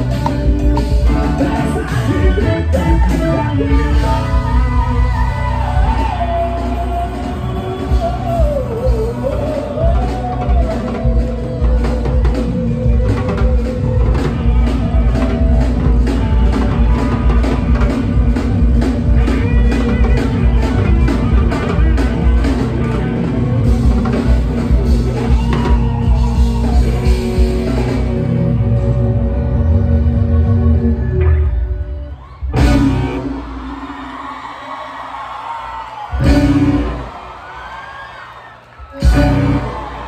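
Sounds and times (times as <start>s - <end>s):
drum kit beat: 0.0s - 28.5s, 32.5s - 34.1s, 36.2s - 37.2s, 39.0s - 40.0s
electric guitar: 0.0s - 34.0s, 36.1s - 37.2s, 38.8s - 40.0s.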